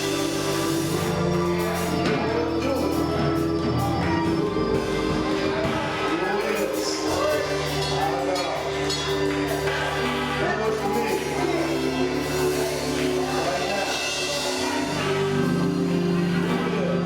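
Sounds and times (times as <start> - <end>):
gospel choir singing: 0.0 - 17.0
held bass line: 0.0 - 17.0
live instrumental backing: 0.0 - 17.0.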